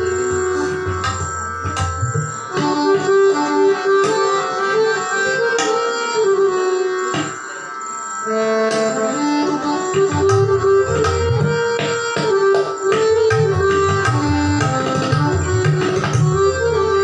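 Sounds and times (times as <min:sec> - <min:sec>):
tabla strokes: 0:00.0 - 0:04.6, 0:05.2 - 0:05.9, 0:07.1 - 0:07.6, 0:08.7 - 0:17.0
harmonium melody: 0:00.0 - 0:17.0.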